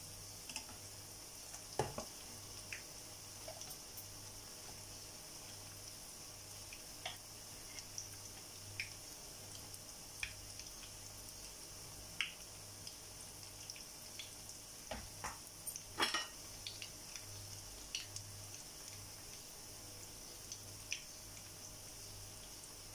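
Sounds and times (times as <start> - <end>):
batter deep-frying in oil: 0.0 - 22.9.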